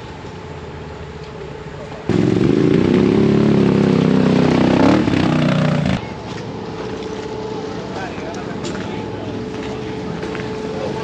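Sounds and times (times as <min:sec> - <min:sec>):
quiet engine hum: 0:00.0 - 0:11.0
atv engine running: 0:02.1 - 0:11.0.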